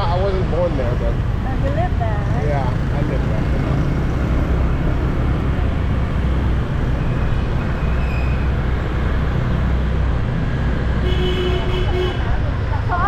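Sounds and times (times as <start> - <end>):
road and traffic noise: 0.0 - 13.0.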